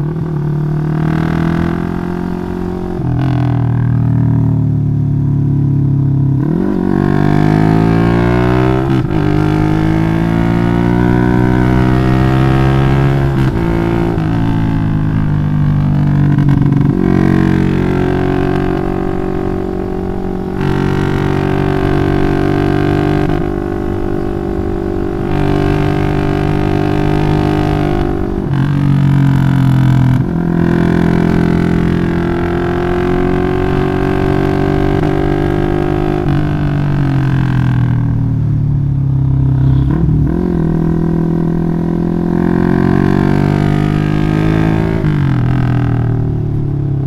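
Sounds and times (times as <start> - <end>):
motorcycle engine running loud: 0.0 - 47.0.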